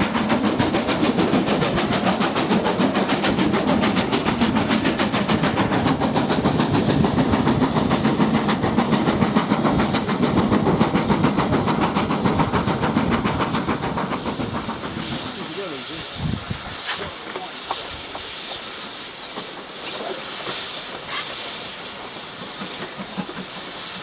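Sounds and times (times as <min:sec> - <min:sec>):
train wheel and rail noise: 0:00.0 - 0:24.0.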